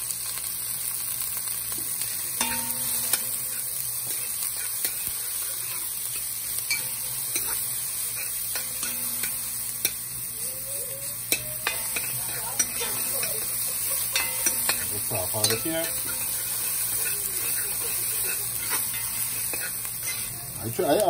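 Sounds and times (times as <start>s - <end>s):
vegetables sizzling in a frying pan: 0.0s - 21.0s
spoon scraping a pan: 2.0s - 21.0s.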